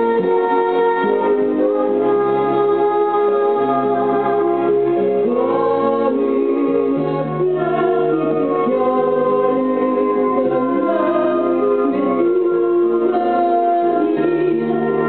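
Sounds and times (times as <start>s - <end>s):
instrumental backing with bass: 0.0s - 15.0s
voices singing in chords: 0.0s - 15.0s.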